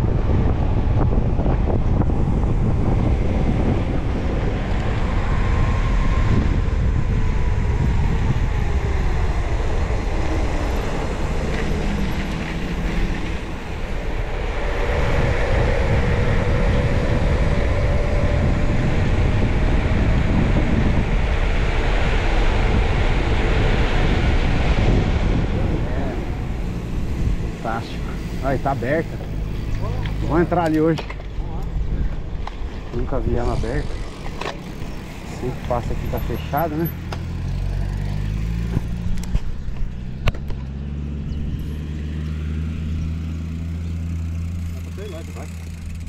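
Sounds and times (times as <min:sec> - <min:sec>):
tyres rolling on road: 0:00.0 - 0:46.0
wind rushing over microphone: 0:00.0 - 0:46.0.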